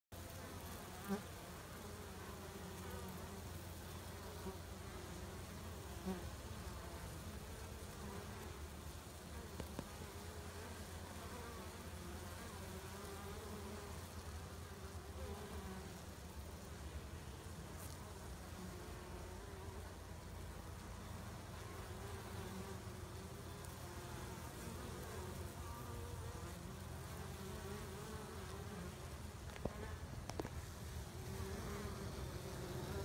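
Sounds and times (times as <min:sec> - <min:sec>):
bees buzzing: 0:00.2 - 0:33.0.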